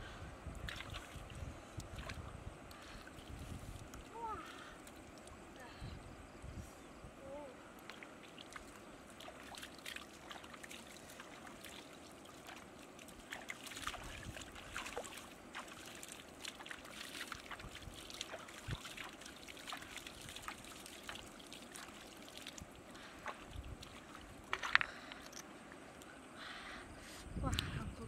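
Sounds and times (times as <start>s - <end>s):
water splashing and dripping: 0.5s - 5.6s, 7.7s - 25.4s.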